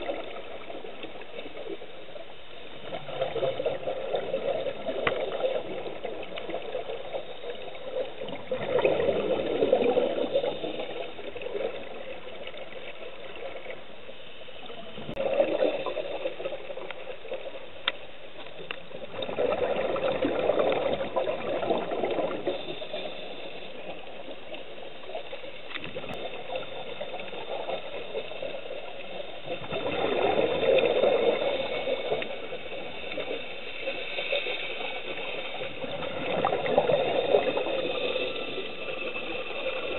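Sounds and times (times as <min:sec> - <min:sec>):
steady underwater hiss: 0:00.0 - 0:39.9.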